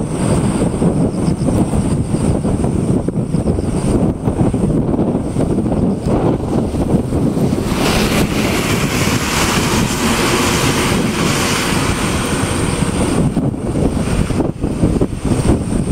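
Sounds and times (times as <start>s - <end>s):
strong wind buffeting microphone: 0.0s - 15.9s.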